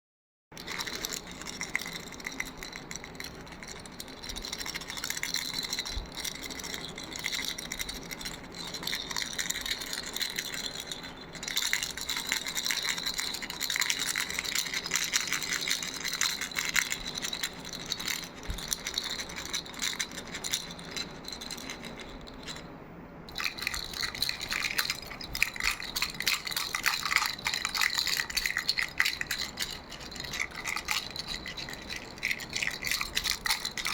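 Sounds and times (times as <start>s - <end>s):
baby rattle shaken: 0.6s - 22.7s, 23.3s - 33.9s.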